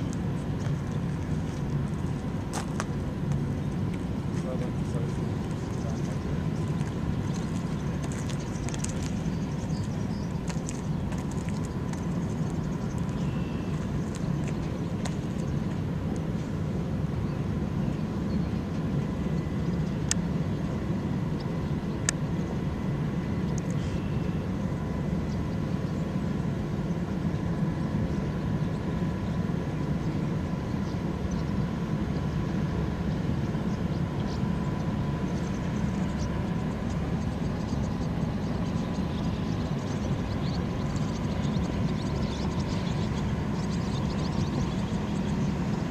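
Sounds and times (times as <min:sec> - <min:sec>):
faint steady whine: 0:00.0 - 0:45.9
ship machinery rumble: 0:00.0 - 0:45.9.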